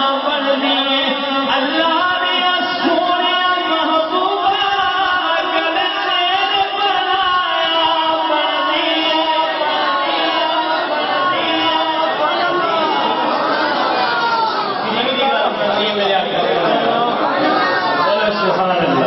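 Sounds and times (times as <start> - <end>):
man singing over loudspeakers: 0.0 - 19.0.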